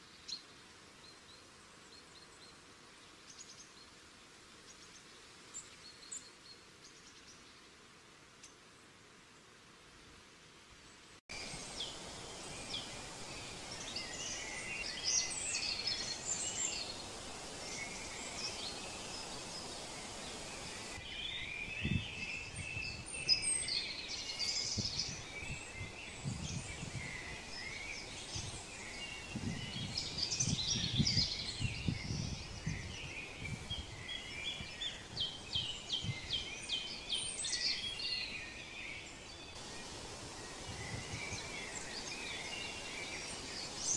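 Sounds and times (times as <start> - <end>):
songbirds singing: 0.0 - 8.6, 10.9 - 43.9
steady background hiss: 0.0 - 43.9.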